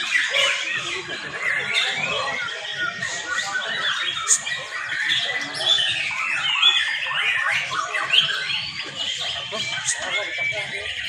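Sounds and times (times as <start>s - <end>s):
birds singing whistles and trills: 0.0s - 11.0s.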